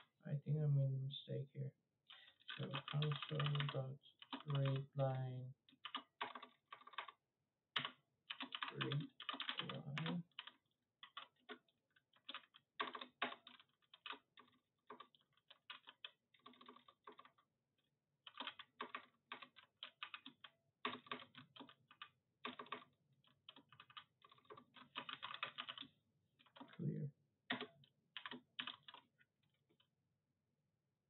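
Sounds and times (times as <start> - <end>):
faint keyboard typing: 2.1 - 7.2, 7.8 - 17.5, 18.2 - 29.9.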